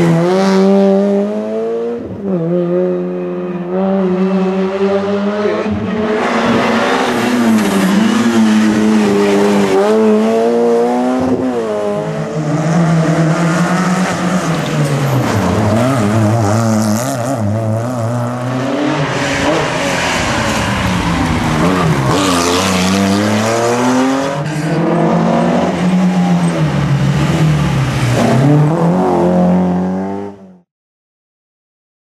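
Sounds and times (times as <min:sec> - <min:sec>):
rally car engines revving: 0:00.0 - 0:30.6.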